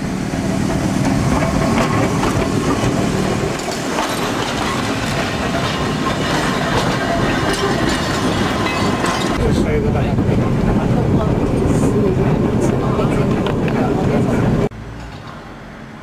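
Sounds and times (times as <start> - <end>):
tram rolling past: 0.0 - 16.0
wheels clicking on track: 0.3 - 16.0.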